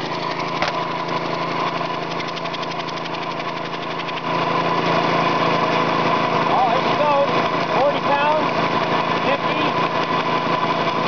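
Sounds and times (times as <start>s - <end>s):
lawnmower engine running: 0.0s - 11.0s.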